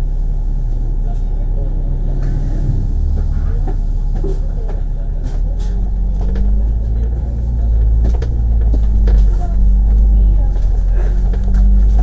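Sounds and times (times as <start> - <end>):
bus engine running: 0.0 - 12.0
light body rattles: 2.2 - 12.0.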